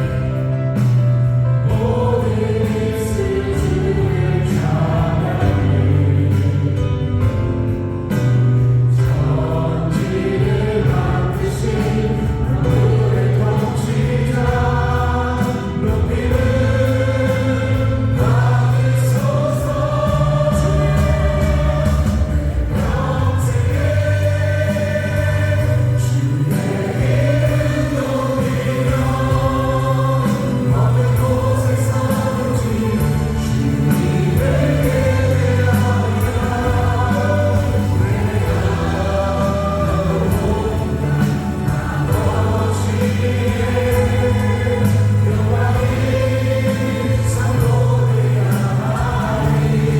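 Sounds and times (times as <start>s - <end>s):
acoustic guitar: 0.0s - 49.9s
drums: 0.0s - 49.9s
keyboards: 0.0s - 49.9s
voices singing together: 0.0s - 49.9s.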